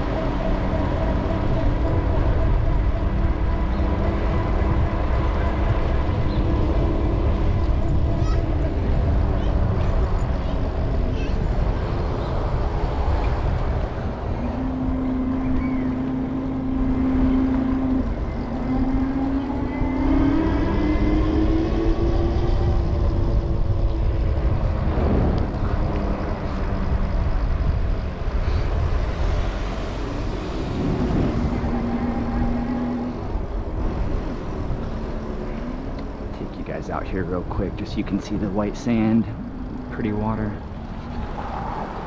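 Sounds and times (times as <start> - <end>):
wind rushing over microphone: 0.0 - 42.0.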